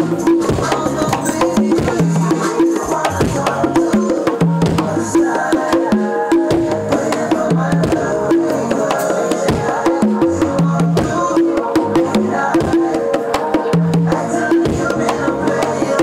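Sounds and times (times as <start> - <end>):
congas played by hand: 0.0 - 16.0.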